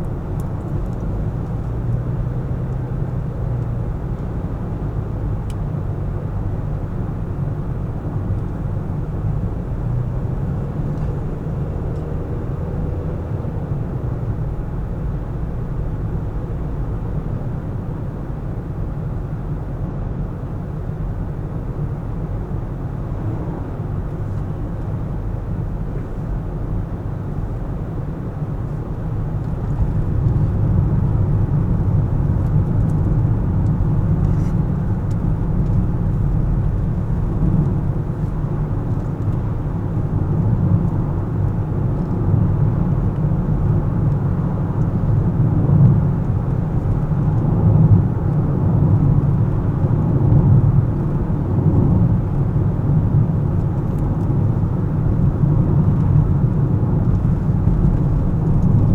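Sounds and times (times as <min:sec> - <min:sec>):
car tyre and engine rumble: 0:00.0 - 0:58.9.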